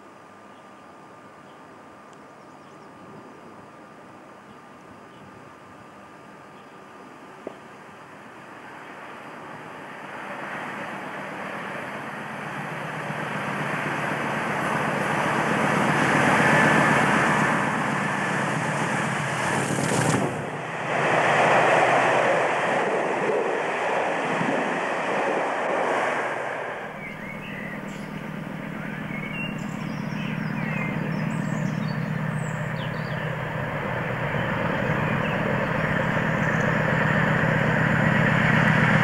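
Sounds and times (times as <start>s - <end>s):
diesel locomotive engine: 0.0s - 39.0s
rush of train wheels and air: 7.1s - 39.0s.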